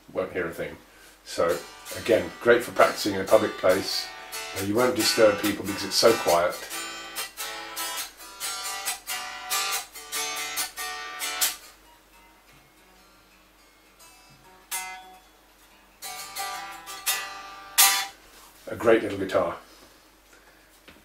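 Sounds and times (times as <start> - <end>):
acoustic guitar strumming: 1.3 - 18.2.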